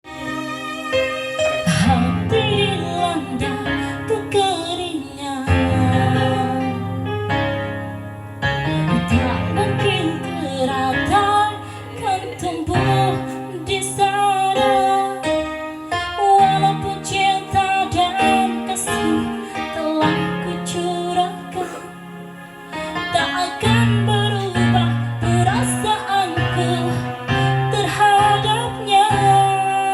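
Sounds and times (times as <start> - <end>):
guitar accompaniment: 0.0 - 29.9
woman singing: 1.6 - 7.5, 8.6 - 22.0, 22.7 - 29.9.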